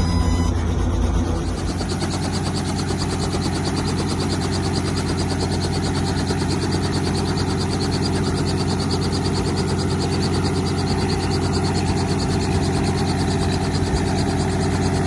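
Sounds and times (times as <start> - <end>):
helicopter engine running: 0.0 - 15.0
helicopter rotor beating: 0.0 - 15.0.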